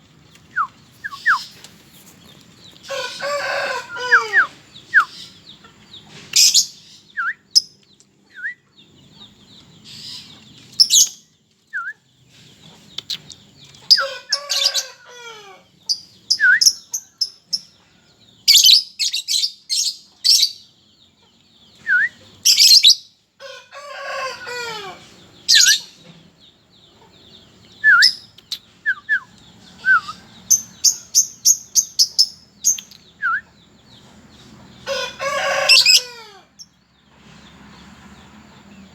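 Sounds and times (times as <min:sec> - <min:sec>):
lovebirds chirping and trilling: 0:00.0 - 0:38.9.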